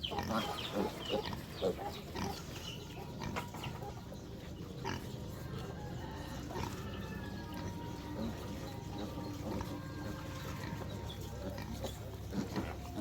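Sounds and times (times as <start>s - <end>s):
pigs grunting: 0.0s - 13.0s.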